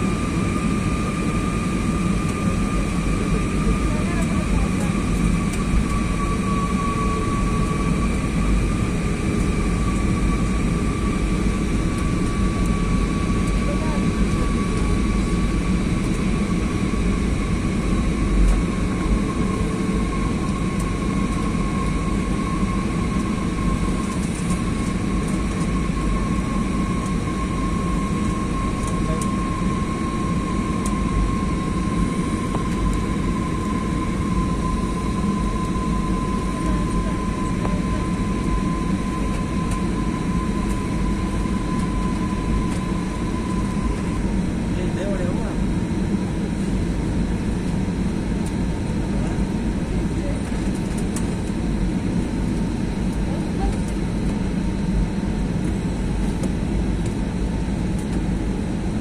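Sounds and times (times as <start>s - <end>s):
jet engine and airflow roar: 0.0s - 59.0s.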